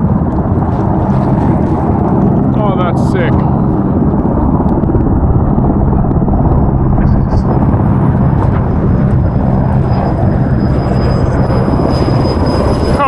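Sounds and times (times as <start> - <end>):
helicopter rotor drone: 0.0 - 13.0.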